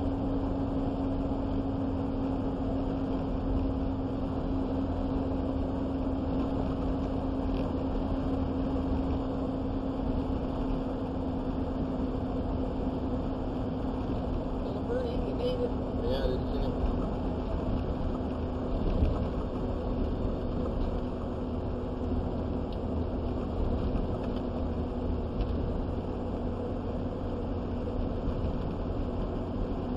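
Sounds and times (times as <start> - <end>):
constant low hum: 0.0 - 29.9
road and engine noise in vehicle: 0.0 - 29.9.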